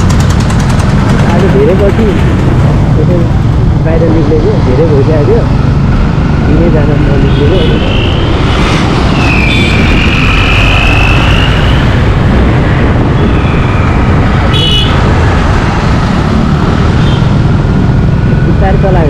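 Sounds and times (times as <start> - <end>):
motorcycle engine and road noise: 0.0 - 19.0
wind rush: 0.0 - 19.0.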